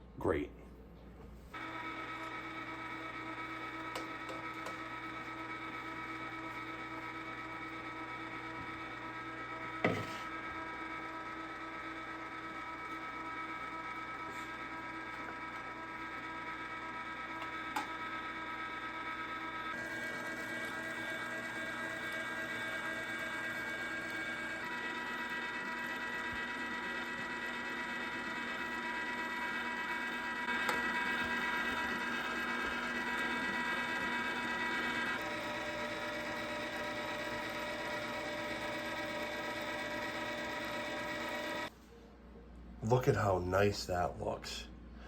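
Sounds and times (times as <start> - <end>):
electric meat grinder running: 1.6 - 41.7.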